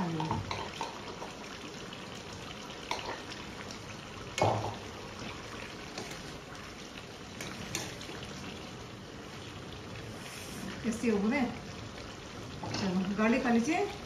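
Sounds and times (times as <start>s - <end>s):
curry bubbling and sizzling: 0.0s - 14.0s.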